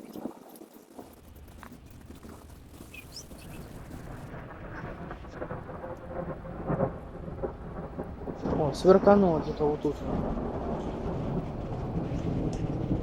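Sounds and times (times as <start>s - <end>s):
thunder rumbling: 0.1s - 13.0s.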